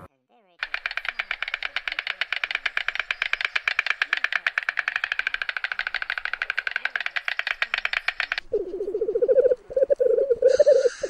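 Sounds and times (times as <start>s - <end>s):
low repeated animal call: 0.6s - 11.0s
stork bill clattering: 0.6s - 11.0s.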